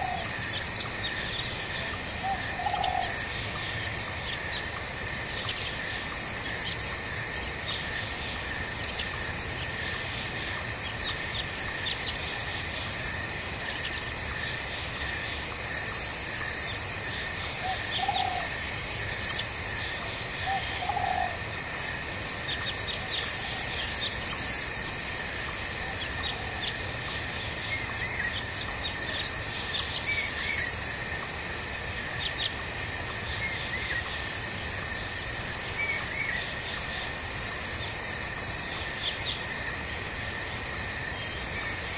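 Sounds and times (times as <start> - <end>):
crickets and insects chirping: 0.0 - 41.9
high shrill insect trill: 0.0 - 41.9.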